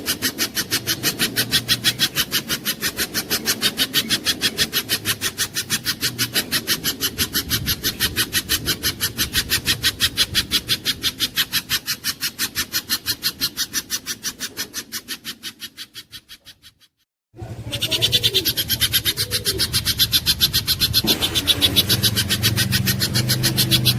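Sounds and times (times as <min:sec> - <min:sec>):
bird sharp chipping notes: 0:00.0 - 0:23.9.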